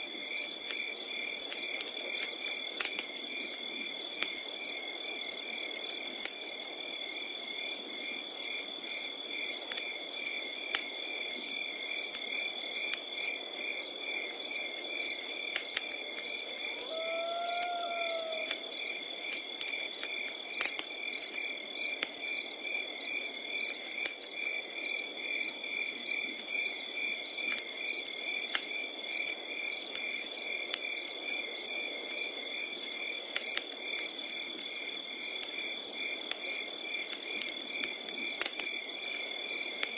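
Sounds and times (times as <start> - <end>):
night insects chirping: 0.0 - 39.9
wood fire crackling: 0.0 - 39.9.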